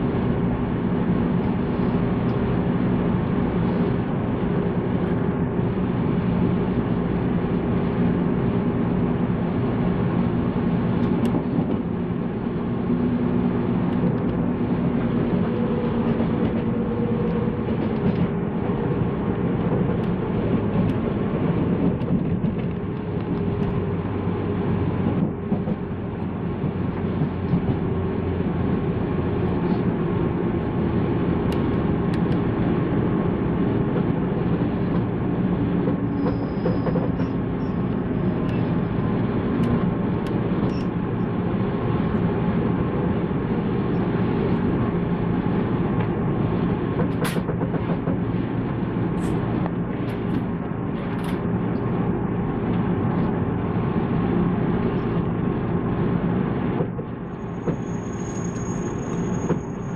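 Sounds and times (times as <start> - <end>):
train wheel and rail noise: 0.0 - 59.9.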